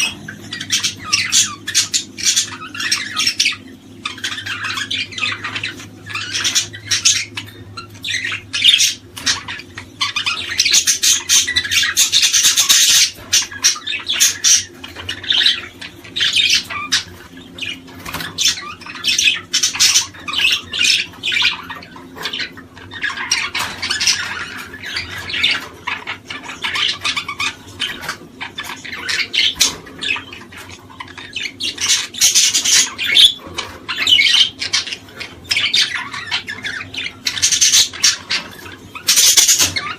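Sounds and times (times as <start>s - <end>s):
cage birds chirping and squawking: 0.0s - 39.9s
steady low hum: 0.0s - 39.9s.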